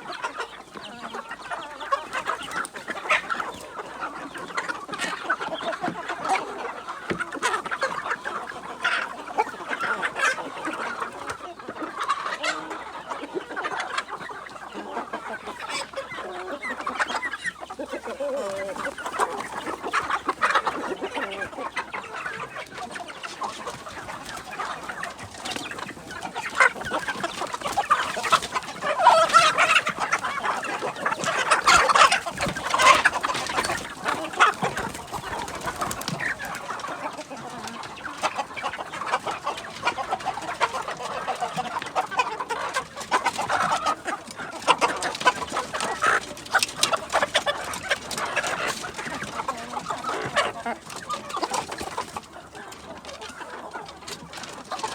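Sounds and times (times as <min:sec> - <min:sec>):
chickens clucking and calling: 0:00.0 - 0:54.9.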